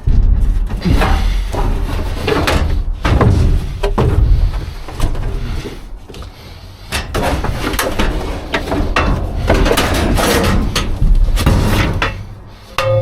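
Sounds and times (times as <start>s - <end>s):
low rumble: 0.0s - 6.8s, 8.1s - 12.8s
scrap clanking in steel dumpster: 0.8s - 5.2s, 6.8s - 13.0s.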